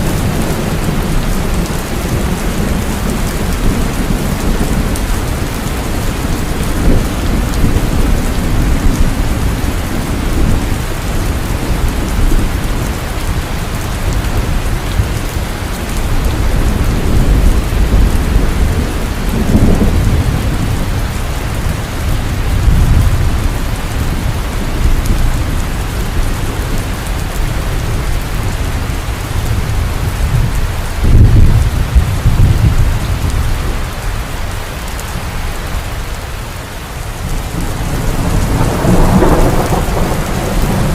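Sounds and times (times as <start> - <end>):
heavy rain falling: 0.0 - 40.9
low thunder rumbling: 0.0 - 40.9.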